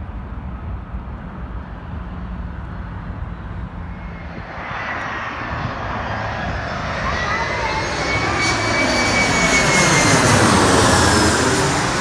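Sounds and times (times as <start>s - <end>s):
jet airliner approaching: 0.0s - 12.0s
low road traffic rumble: 0.0s - 12.0s.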